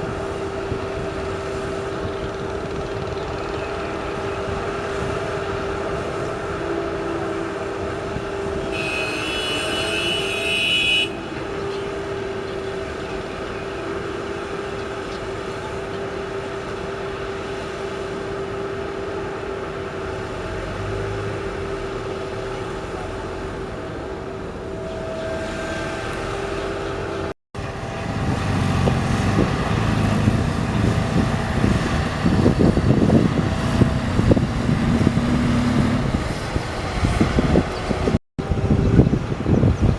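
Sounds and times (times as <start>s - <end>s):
heavy vehicle engine whining: 0.0s - 39.9s
rough engine rumble: 0.0s - 39.9s.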